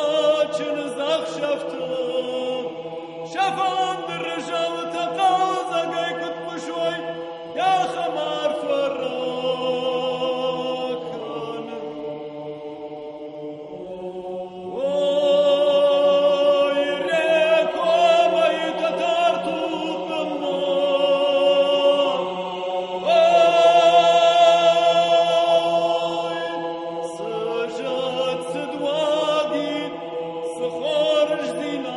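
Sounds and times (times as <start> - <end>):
wordless choral chanting: 0.0 - 31.9.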